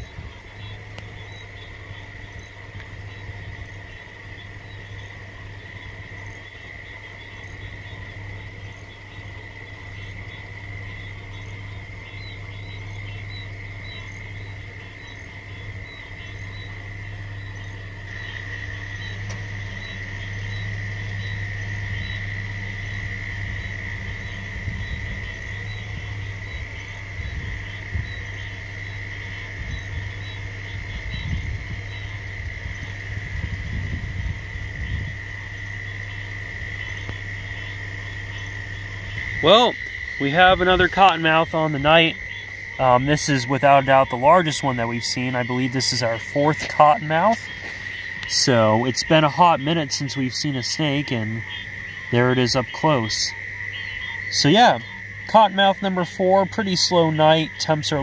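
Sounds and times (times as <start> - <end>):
car engine humming: 0.0 - 58.0
frogs peeping: 0.0 - 58.0
frogs trilling: 0.0 - 58.0.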